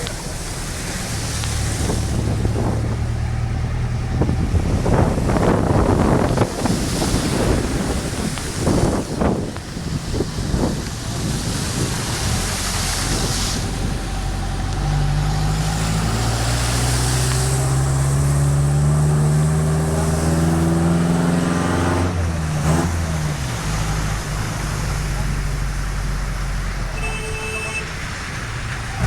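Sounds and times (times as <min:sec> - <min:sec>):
vehicle engine accelerating: 0:00.0 - 0:27.0
rain hissing: 0:00.0 - 0:29.0
wind: 0:00.0 - 0:29.0.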